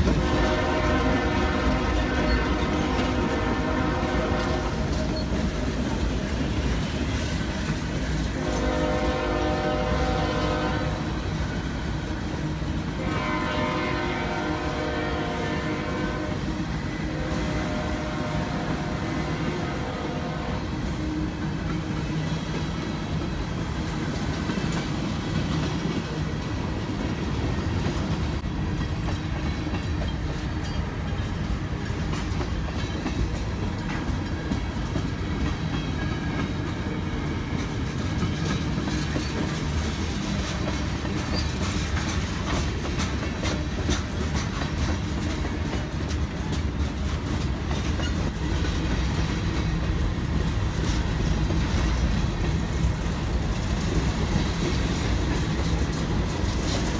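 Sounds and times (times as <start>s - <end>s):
wheels clicking over rail joints: 0.0s - 15.4s, 20.8s - 56.9s
diesel locomotives rumbling: 0.0s - 56.9s.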